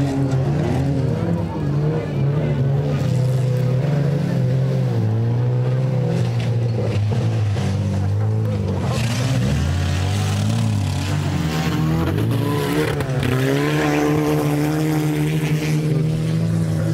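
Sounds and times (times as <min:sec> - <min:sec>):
car engines revving: 0:00.0 - 0:16.9.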